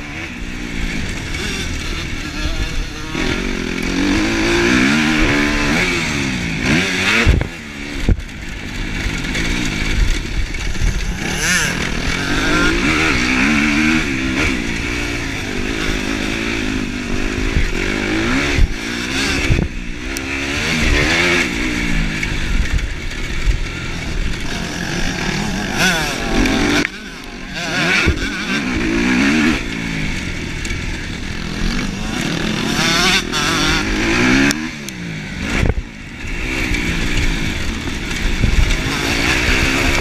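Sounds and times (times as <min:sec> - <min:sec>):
motocross engine revving: 0:00.0 - 0:40.0.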